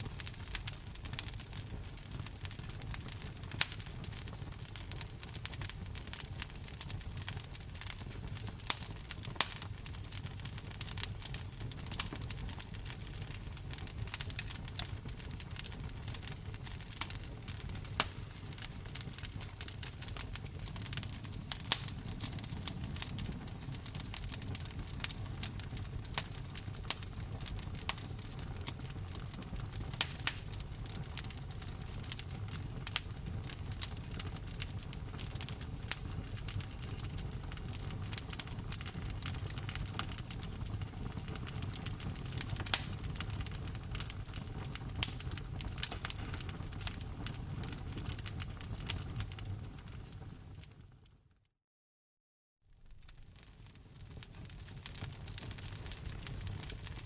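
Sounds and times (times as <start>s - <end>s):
wood fire crackling and popping: 0.0s - 51.2s, 52.8s - 57.0s.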